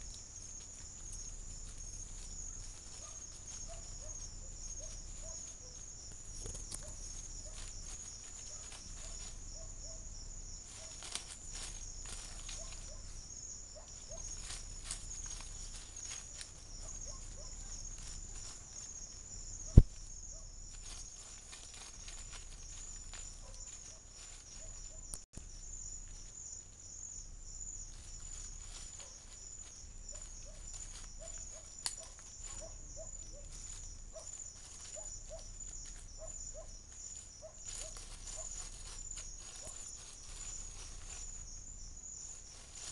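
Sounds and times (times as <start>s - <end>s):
insect chorus at night: 0.0s - 42.9s
rustling in leaves: 0.0s - 42.9s.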